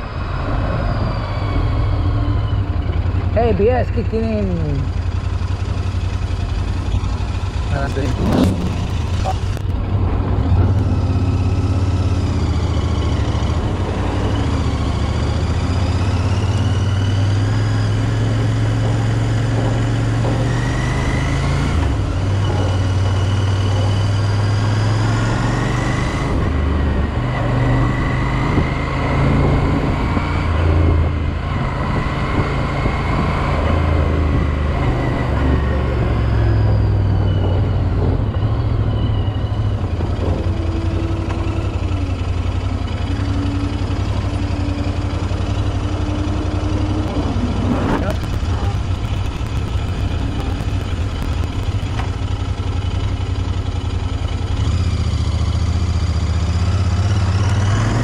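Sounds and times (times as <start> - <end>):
motorcycle engine revving: 0.0 - 58.0
road and traffic noise: 0.0 - 58.0.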